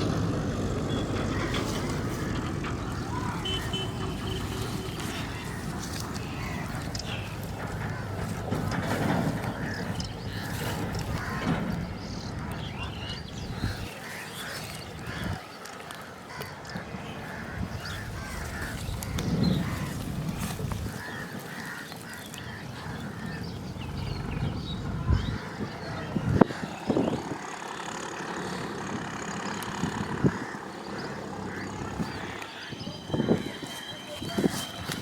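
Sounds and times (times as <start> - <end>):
birds calling: 0.0 - 35.0.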